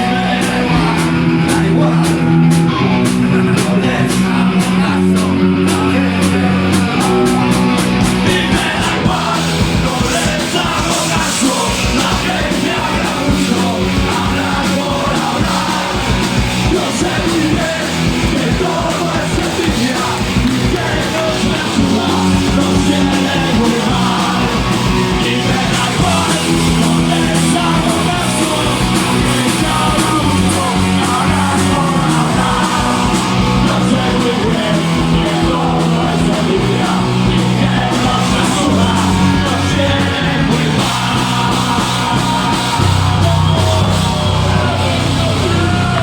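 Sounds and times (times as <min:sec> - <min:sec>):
drumming: 0:00.0 - 0:46.0
punk rock band playing live: 0:00.0 - 0:46.0.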